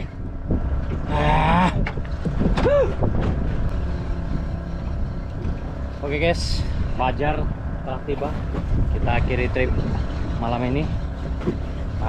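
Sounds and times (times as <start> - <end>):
fishing boat engine rumble: 0.0 - 12.0.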